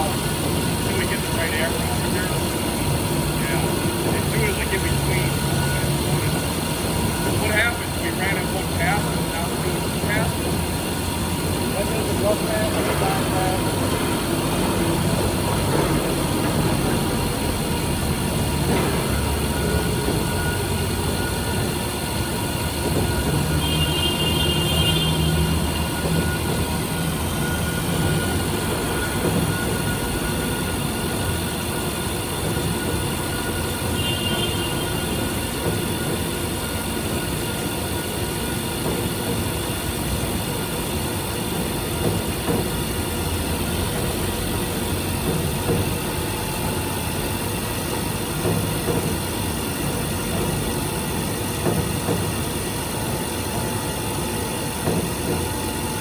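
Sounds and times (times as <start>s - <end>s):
milling machine running: 0.0s - 56.0s.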